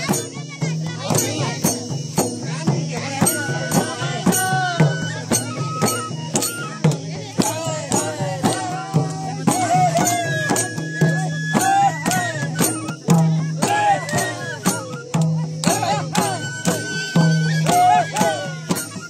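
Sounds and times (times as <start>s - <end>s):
person singing folk song: 0.0s - 19.0s
sharp percussion strikes: 0.0s - 19.0s.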